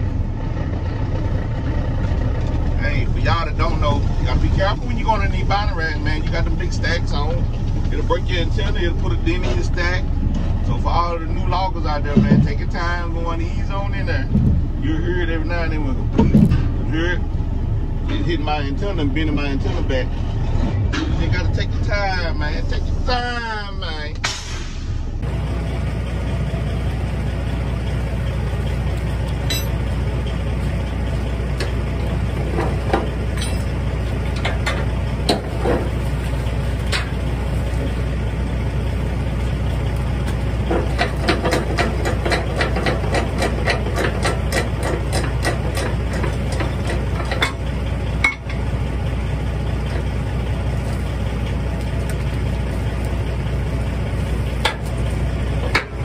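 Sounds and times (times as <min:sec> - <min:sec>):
diesel truck idling: 0:00.0 - 0:56.0.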